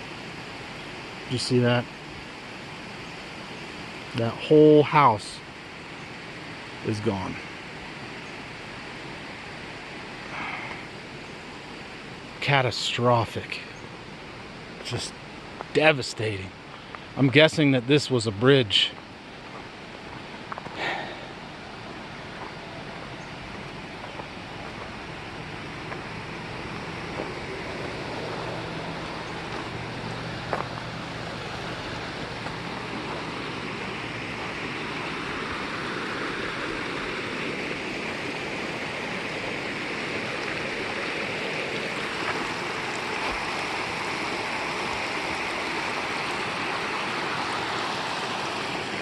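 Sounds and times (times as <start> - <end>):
rushing river water: 0.0 - 49.0.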